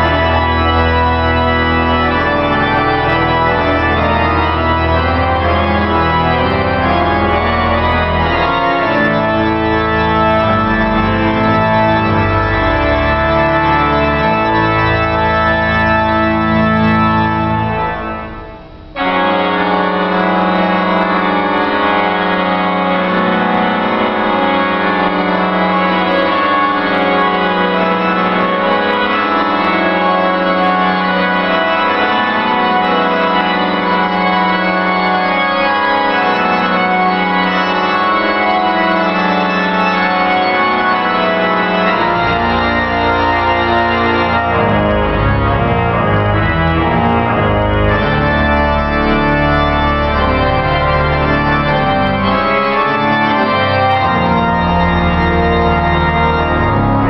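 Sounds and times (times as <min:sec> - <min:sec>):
deep organ pedal bass notes: 0:00.0 - 0:57.0
pipe organ chords: 0:00.0 - 0:57.0.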